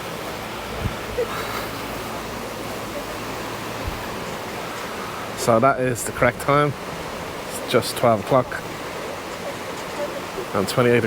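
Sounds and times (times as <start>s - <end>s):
distant surf: 0.0s - 11.0s
wind: 0.0s - 11.0s.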